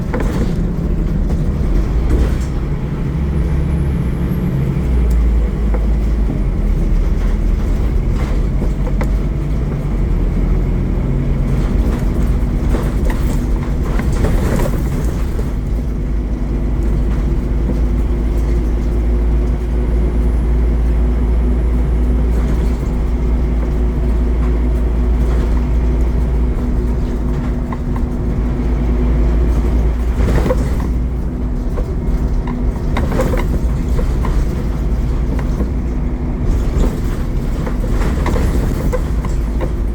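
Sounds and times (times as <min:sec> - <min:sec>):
bus bodywork rattling: 0:00.0 - 0:39.9
bus diesel engine rumbling: 0:00.0 - 0:39.9.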